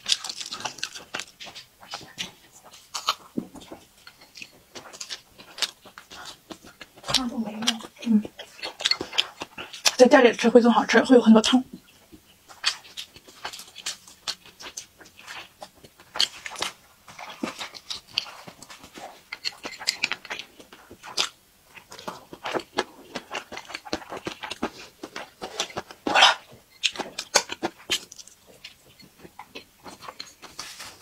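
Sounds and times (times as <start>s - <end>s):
wet chewing: 0.0s - 31.0s.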